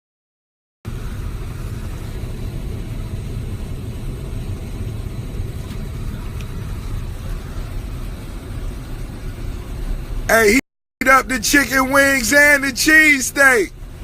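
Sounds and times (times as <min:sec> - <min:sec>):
jet cabin engine rumble: 0:00.9 - 0:14.0.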